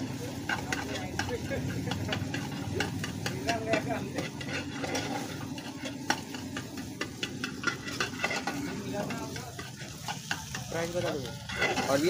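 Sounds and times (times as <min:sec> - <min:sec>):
metal spatula scraping iron pan: 0:00.1 - 0:12.0.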